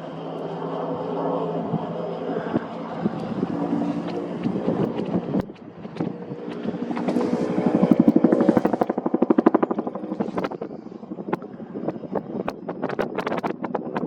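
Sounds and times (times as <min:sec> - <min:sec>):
helicopter flying past: 0:00.0 - 0:14.0.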